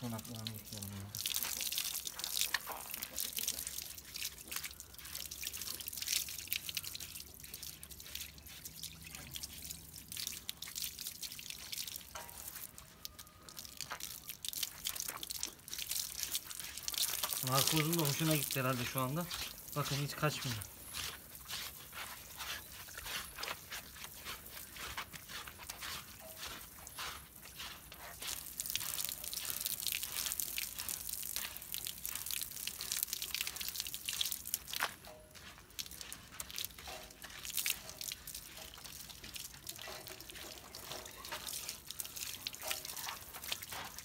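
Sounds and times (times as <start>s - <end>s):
running water: 0.0s - 44.0s
water splashing and dripping: 0.0s - 44.0s.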